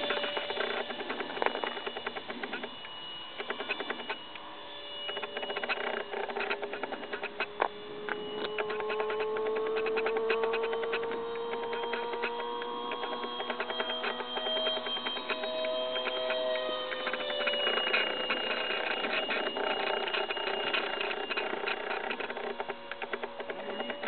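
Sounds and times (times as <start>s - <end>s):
crackling clicks: 0.0s - 24.0s
model jet fan whining: 0.0s - 24.0s.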